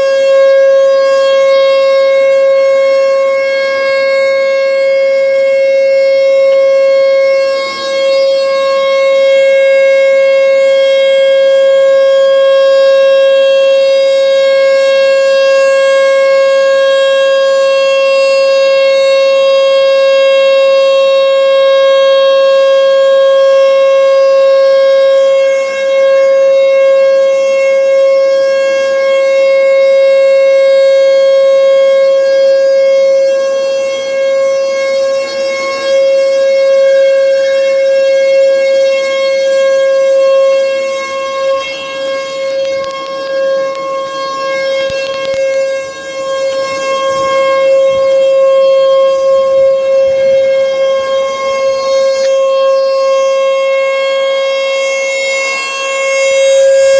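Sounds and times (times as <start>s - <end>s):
warning siren steady tone: 0.0s - 56.9s.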